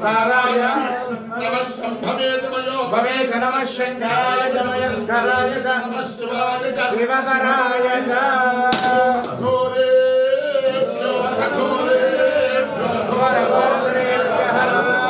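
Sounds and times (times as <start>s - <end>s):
man singing a chant: 2.0s - 15.0s.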